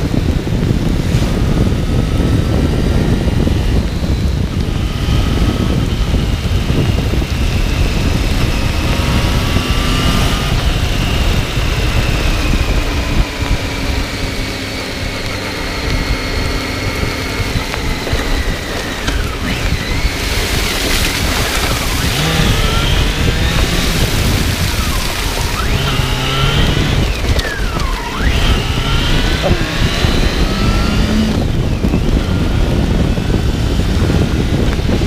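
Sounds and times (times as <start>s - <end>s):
motorcycle engine running: 0.0s - 35.0s
wind rushing: 0.0s - 35.0s
wet road spray: 0.1s - 35.0s.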